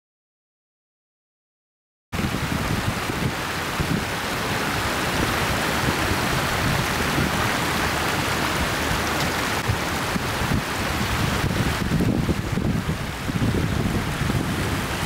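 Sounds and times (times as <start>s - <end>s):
ocean surf: 2.2s - 15.0s
wind on microphone: 2.2s - 15.0s.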